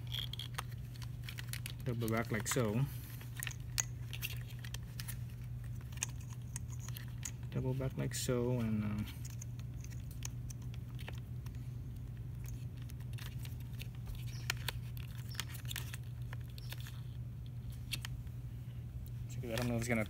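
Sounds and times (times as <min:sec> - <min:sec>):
wires and connectors clicking: 0:00.0 - 0:07.6, 0:08.9 - 0:18.4, 0:19.0 - 0:20.0
steady low hum: 0:00.0 - 0:20.0.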